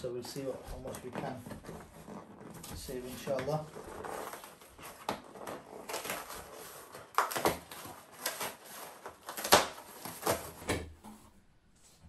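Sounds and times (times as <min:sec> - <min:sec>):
cardboard flaps tearing open: 0:00.4 - 0:10.9.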